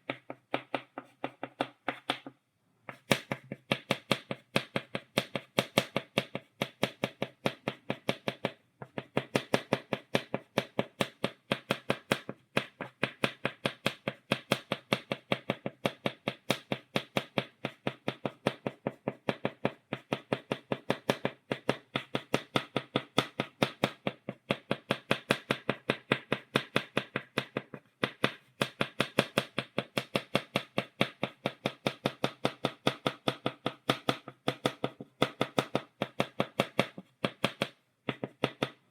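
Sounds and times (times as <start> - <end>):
chalk tapping on blackboard: 0.0 - 38.9.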